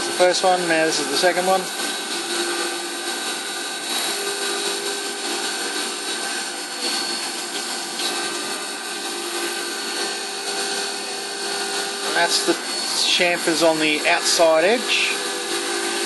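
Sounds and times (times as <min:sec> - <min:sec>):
metal cutting noise: 0:00.0 - 0:16.0
milling machine spindle whine: 0:00.0 - 0:16.0.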